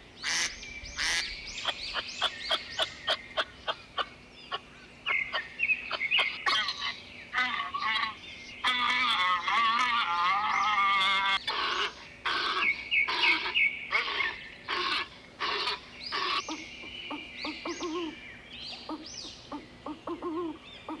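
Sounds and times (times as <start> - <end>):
low owl calls: 0.2 - 18.2, 18.8 - 21.0
walrus harsh calls: 0.2 - 18.2.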